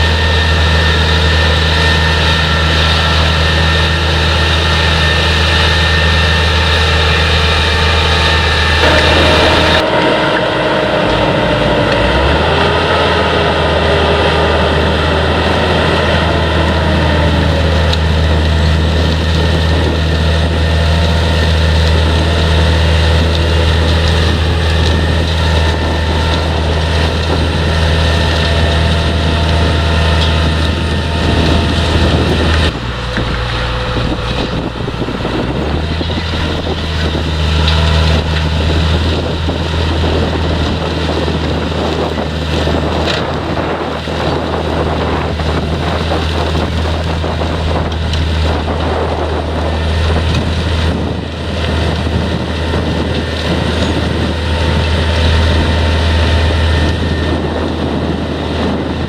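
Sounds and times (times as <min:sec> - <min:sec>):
tractor engines humming: 0:00.0 - 0:59.0.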